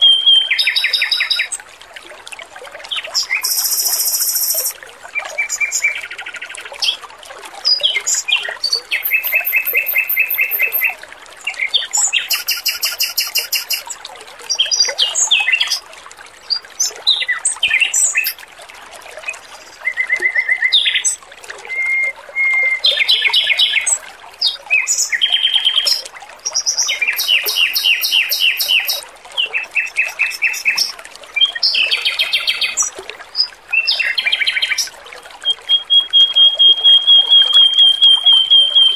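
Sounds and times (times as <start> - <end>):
bird singing trilled phrases: 0.0 - 1.6, 3.0 - 6.1, 7.7 - 15.8, 16.5 - 18.4, 19.5 - 38.9
trickling water: 0.0 - 38.9.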